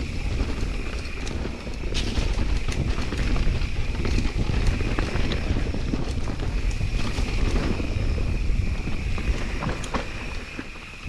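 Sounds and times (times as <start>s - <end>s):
bike clicks and knocks: 0.0s - 11.0s
tyres on dirt and stones: 0.0s - 11.0s
wind buffeting microphone: 0.0s - 11.0s.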